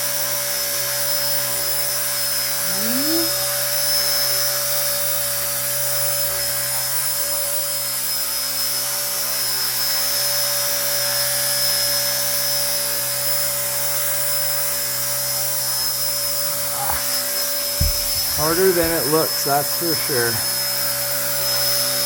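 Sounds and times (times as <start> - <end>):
toy helicopter rotor whine: 0.0 - 22.0.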